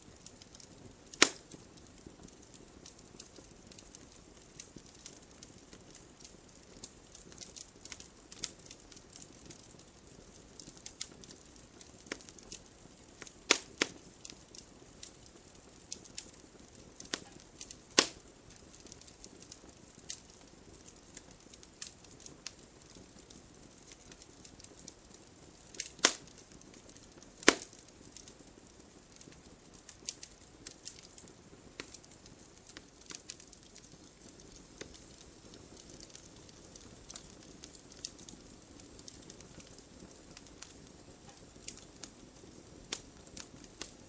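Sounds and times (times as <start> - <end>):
soft steady hiss: 0.0 - 44.0
wood fire crackling: 0.0 - 44.0.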